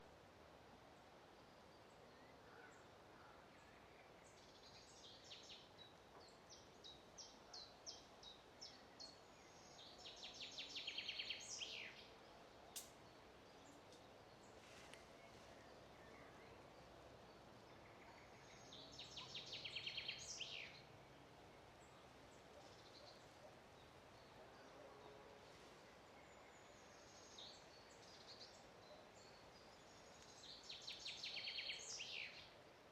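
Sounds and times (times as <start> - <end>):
faint outdoor background hiss: 0.0 - 32.9
songbird singing: 1.0 - 32.9.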